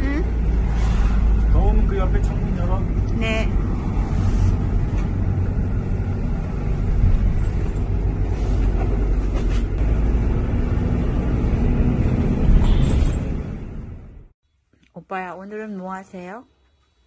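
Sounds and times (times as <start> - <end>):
minibus engine and road noise: 0.0 - 14.4.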